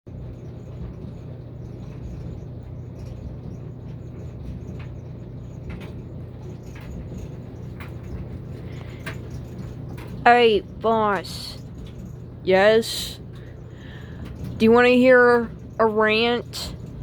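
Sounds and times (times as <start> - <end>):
washing machine humming: 0.1 - 17.0.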